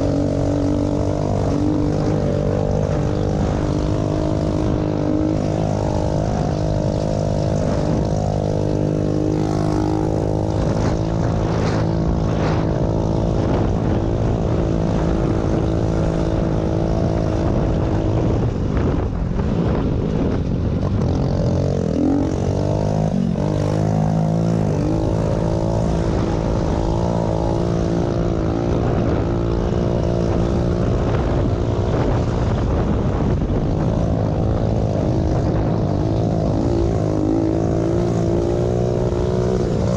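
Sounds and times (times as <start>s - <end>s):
pit bike engine running: 0.0s - 39.9s.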